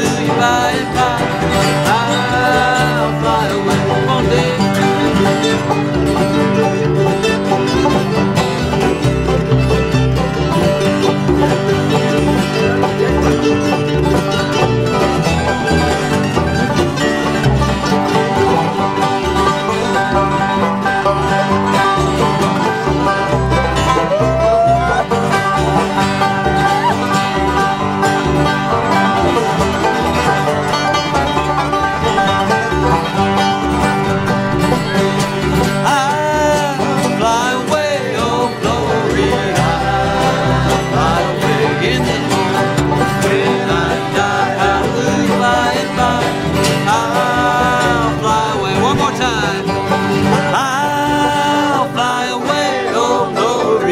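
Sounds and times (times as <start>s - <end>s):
acoustic bluegrass band playing: 0.0s - 53.9s
sliding melody line: 0.0s - 53.9s.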